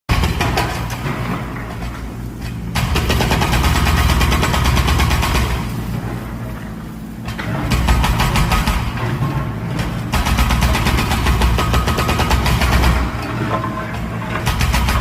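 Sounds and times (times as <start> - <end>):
hydraulic breaker hammering masonry: 0.1 - 15.0.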